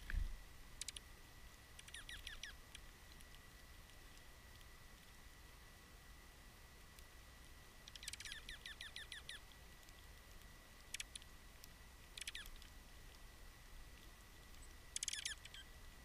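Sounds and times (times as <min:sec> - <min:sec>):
songbirds chirping: 0:00.0 - 0:04.8, 0:07.1 - 0:15.9.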